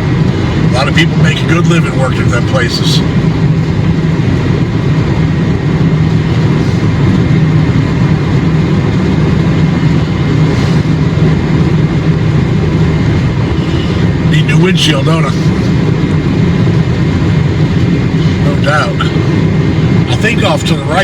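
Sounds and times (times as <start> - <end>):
road and engine noise in car cabin: 0.0 - 21.0.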